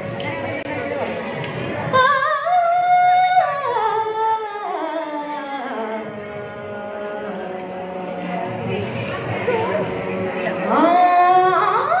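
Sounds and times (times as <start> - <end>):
girl singing into microphone: 0.0 - 12.0.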